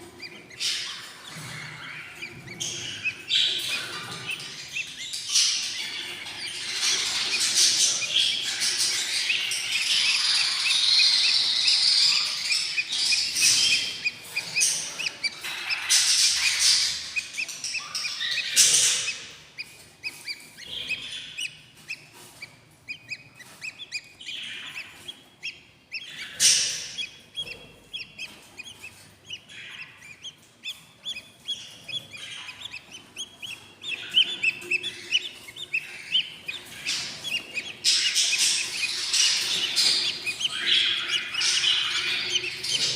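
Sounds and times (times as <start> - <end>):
bird chicks raspy hissing calls: 0.0 - 42.9
chicks peeping: 0.0 - 42.9.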